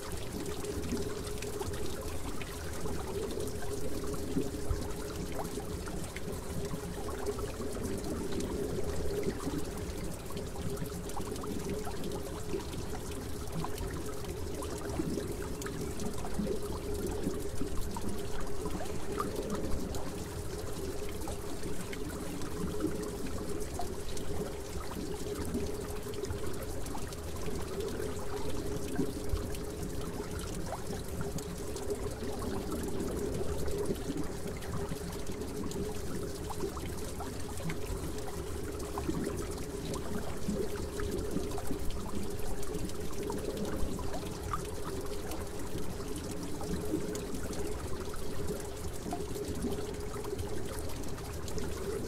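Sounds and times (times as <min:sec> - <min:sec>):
aquarium water trickling: 0:00.0 - 0:52.0.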